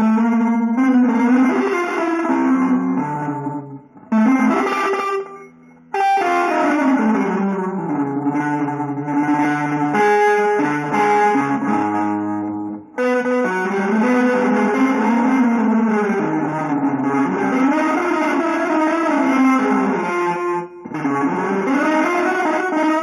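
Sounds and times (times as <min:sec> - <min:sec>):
guitar playing chords and melody: 0:00.0 - 0:23.0.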